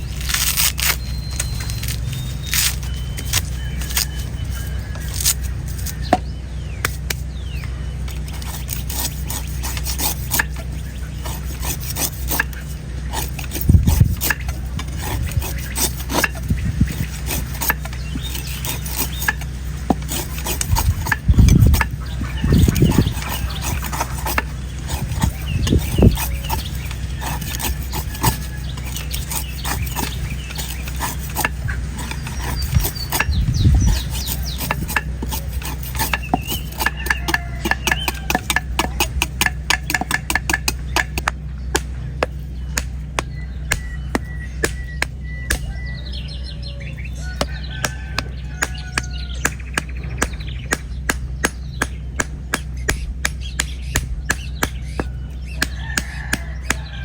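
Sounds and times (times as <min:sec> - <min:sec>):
knife chopping coconut husk: 0:00.0 - 0:07.4, 0:08.1 - 0:46.1, 0:47.2 - 0:57.0
birds chirping: 0:00.0 - 0:57.0.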